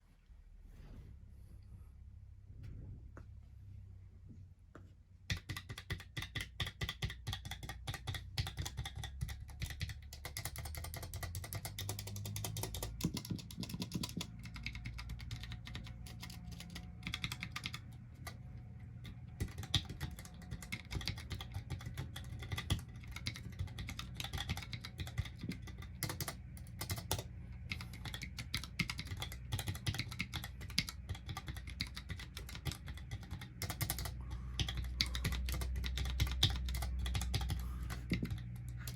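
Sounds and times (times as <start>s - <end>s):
low steady hum: 0.0s - 38.9s
mechanical keyboard typing: 5.3s - 38.9s.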